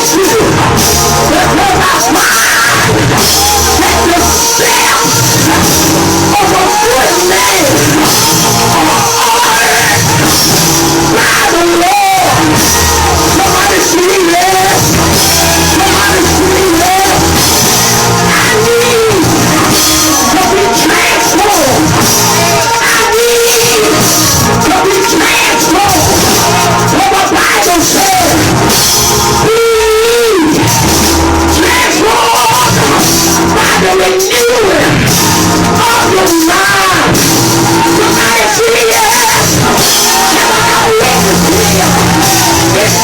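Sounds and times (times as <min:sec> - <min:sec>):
bass: 0:00.0 - 0:43.0
driving drum kit: 0:00.0 - 0:43.0
person singing and shouting: 0:00.0 - 0:43.0.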